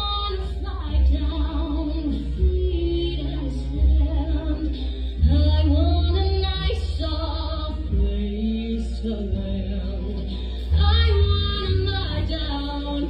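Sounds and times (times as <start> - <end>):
deep sustained bass accompaniment: 0.0 - 13.0.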